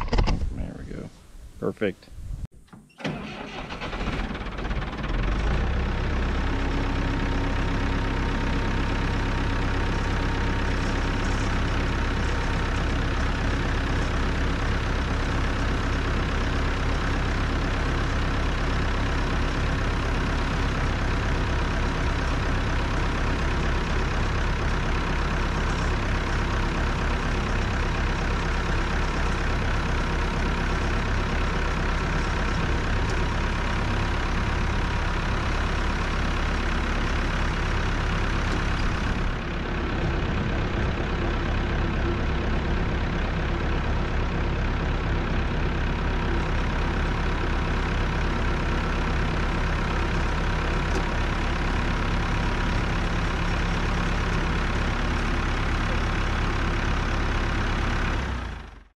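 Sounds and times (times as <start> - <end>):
tractor engine running: 2.6 - 58.9.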